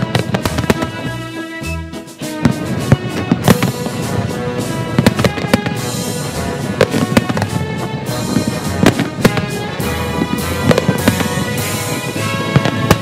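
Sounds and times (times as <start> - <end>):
fireworks bangs: 0.0 - 13.0
music with held tones: 0.0 - 13.0.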